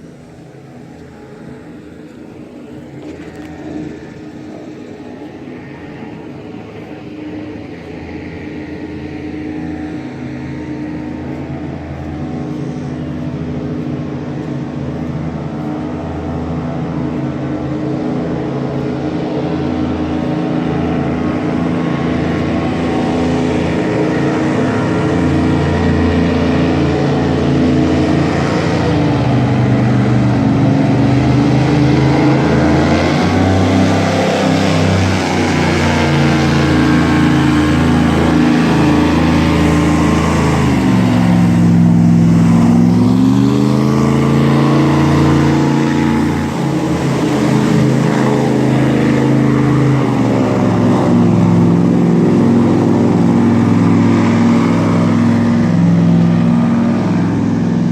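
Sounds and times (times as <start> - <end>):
engine approaching: 0.0 - 57.9.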